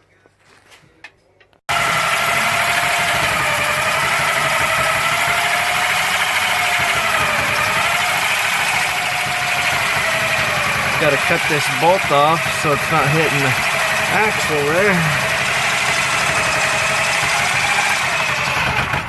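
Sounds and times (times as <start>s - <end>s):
power tool motor whining: 1.7s - 19.0s.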